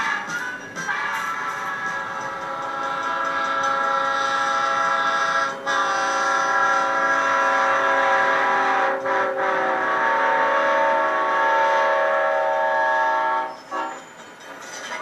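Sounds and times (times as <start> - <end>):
train horn chord: 0.9 - 14.0.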